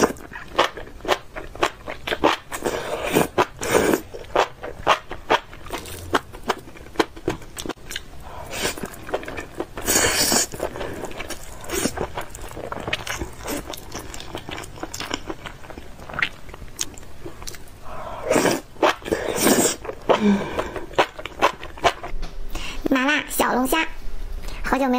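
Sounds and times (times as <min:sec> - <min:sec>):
slurping: 0:00.0 - 0:21.9.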